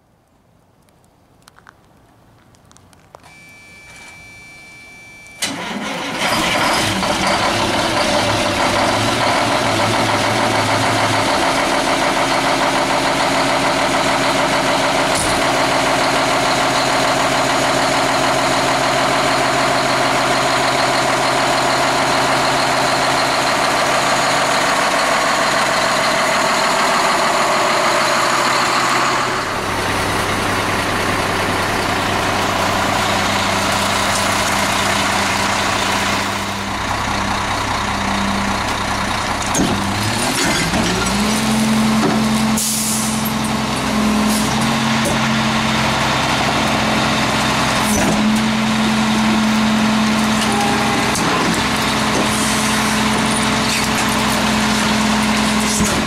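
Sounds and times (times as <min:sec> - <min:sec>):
diesel engine cranking: 0:05.3 - 0:56.0
diesel engine running loudly: 0:05.4 - 0:56.0.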